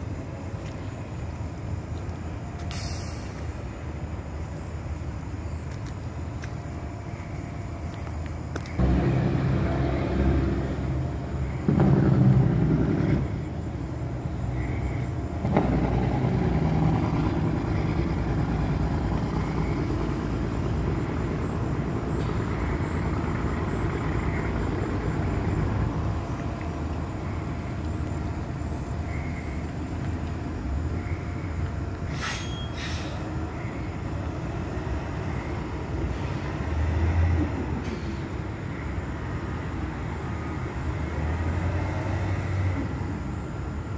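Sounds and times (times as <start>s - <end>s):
bus engine pulling away: 0.0s - 43.9s.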